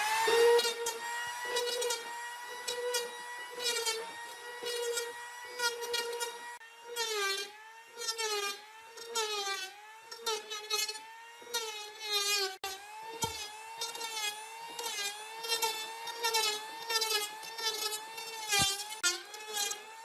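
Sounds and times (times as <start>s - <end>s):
power tool motor whining: 0.0s - 20.0s.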